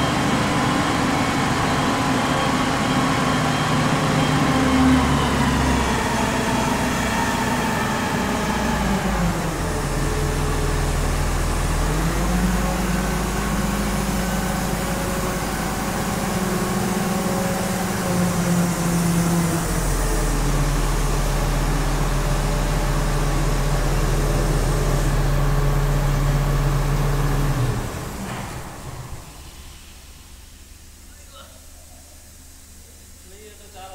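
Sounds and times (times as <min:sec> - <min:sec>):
crane diesel engine running: 0:00.0 - 0:31.0.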